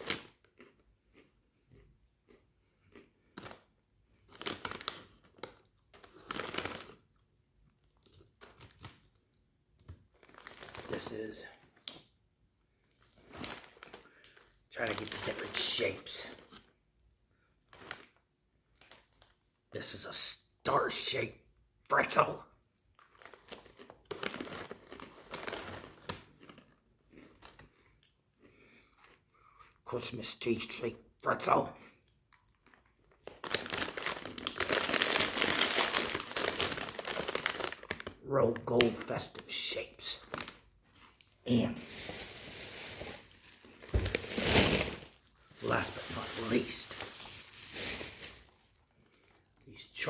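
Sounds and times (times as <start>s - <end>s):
plastic snack bag crinkling: 0.0s - 12.1s, 12.8s - 16.7s, 17.6s - 19.9s, 22.8s - 29.2s, 31.4s - 50.0s.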